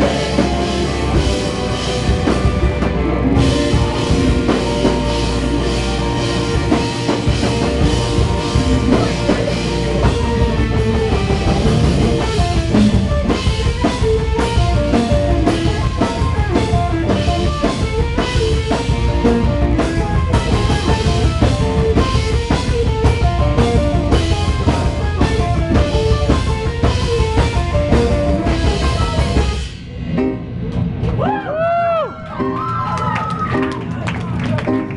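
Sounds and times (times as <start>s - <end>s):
drum kit hitting hard: 0.0s - 31.4s
live rock band playing: 0.0s - 34.9s.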